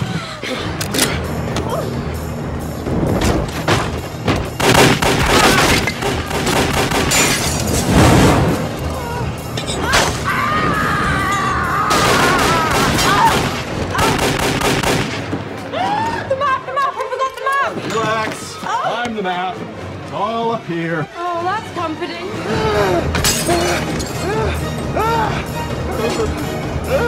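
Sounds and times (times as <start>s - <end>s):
dramatic music: 0.0s - 27.0s.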